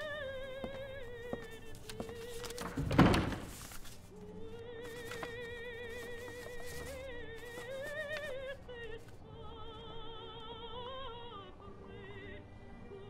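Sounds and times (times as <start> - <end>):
operatic singing with vibrato: 0.0 - 3.5, 4.1 - 13.0.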